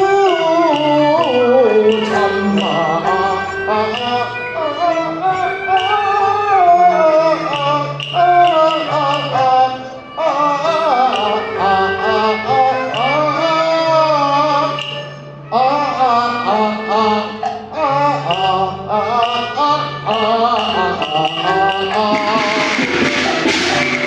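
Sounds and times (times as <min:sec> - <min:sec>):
ornamented sliding melody: 0:00.0 - 0:24.0.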